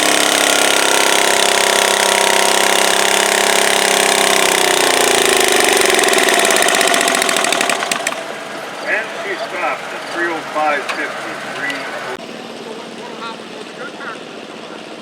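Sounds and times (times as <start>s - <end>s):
garden tractor engine revving: 0.0s - 12.3s.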